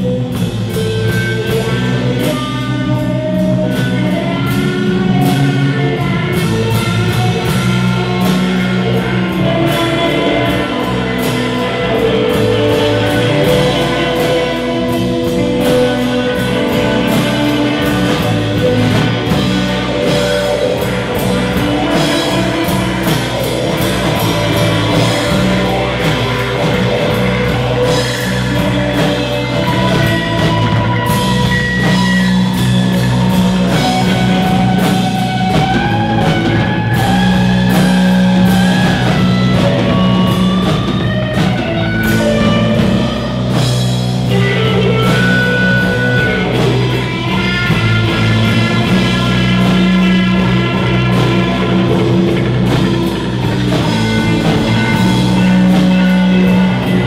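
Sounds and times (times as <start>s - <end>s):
bass notes: 0.0s - 57.0s
drum kit: 0.0s - 57.0s
electric guitar lead lines: 0.0s - 57.0s.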